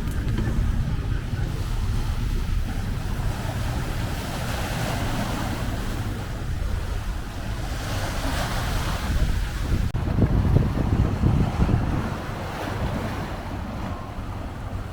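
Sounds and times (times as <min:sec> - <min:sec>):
sea surf washing on shore: 0:00.0 - 0:14.9
wind buffeting microphone: 0:00.0 - 0:14.9.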